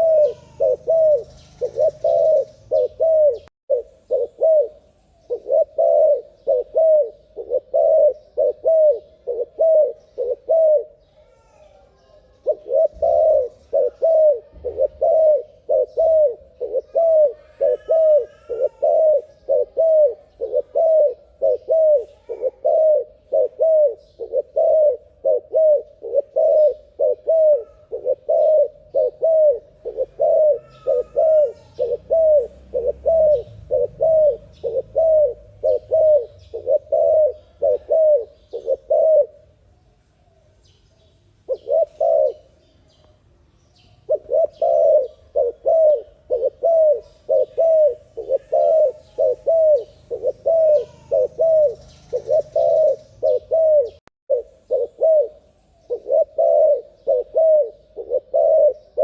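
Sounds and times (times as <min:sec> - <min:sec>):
dove cooing: 0:00.0 - 0:39.6, 0:41.4 - 0:42.7, 0:43.8 - 0:59.0.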